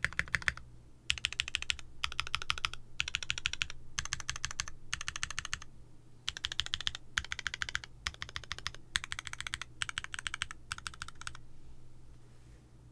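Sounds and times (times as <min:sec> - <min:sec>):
fast typing on mechanical keyboard: 0:00.0 - 0:05.7, 0:06.3 - 0:11.4.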